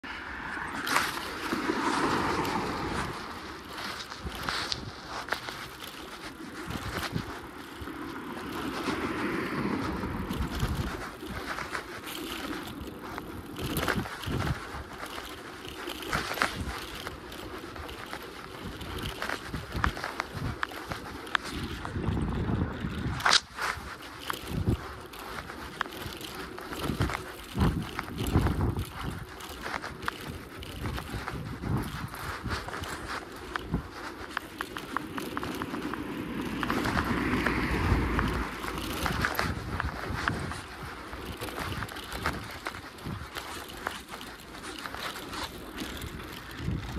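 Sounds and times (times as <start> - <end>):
bicycle tyre road noise: 0.0 - 46.9
wind buffeting microphone: 0.0 - 46.9.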